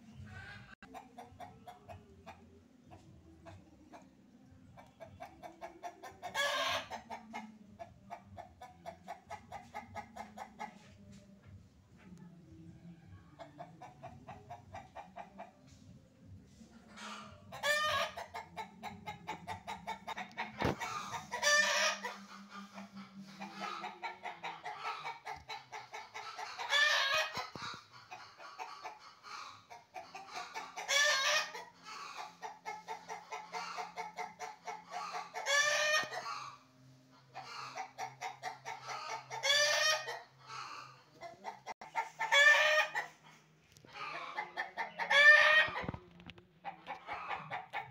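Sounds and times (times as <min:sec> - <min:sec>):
chicken clucking: 0:00.0 - 0:47.9.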